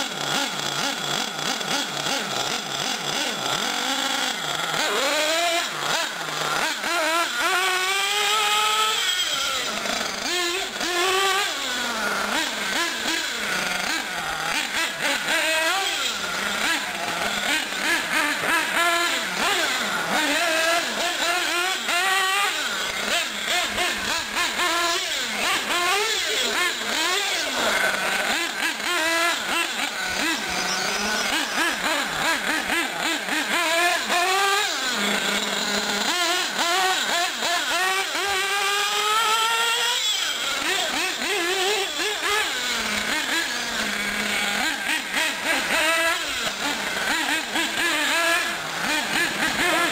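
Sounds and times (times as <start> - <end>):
small model car engine revving: 0.0 - 49.9.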